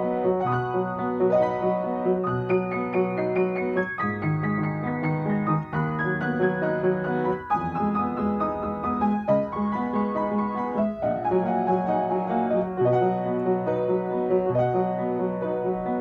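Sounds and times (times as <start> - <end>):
upright piano chords: 0.0 - 16.0.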